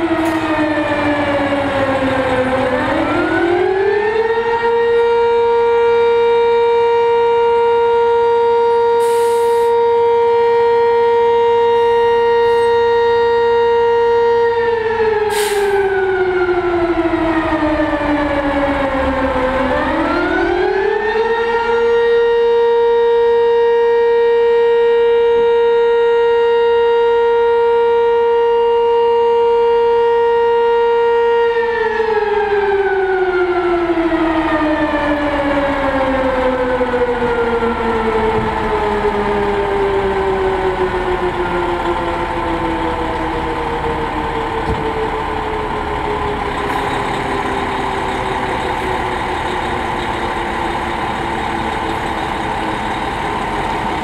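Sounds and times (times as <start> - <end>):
low truck rumble: 0.0 - 22.9, 31.2 - 54.0
fire siren wailing: 0.0 - 54.0.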